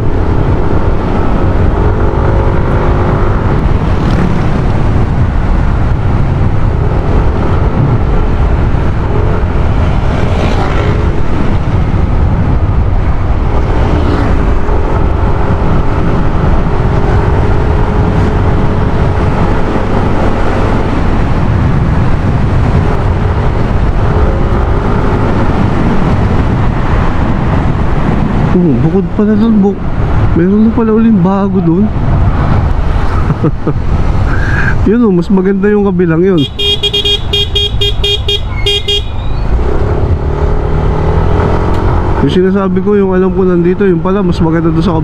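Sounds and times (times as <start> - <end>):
wind rumble on microphone: 0.0 - 45.0.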